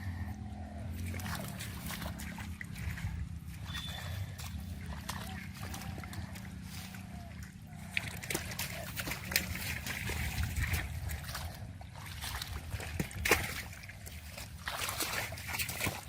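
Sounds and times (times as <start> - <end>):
low steady rumble: 0.0 - 16.0
muddy water sloshing: 0.0 - 16.0.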